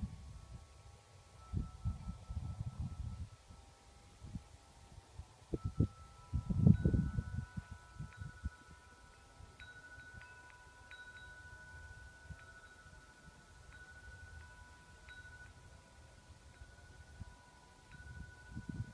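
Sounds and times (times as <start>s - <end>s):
wind chime ringing: 0.0s - 18.9s.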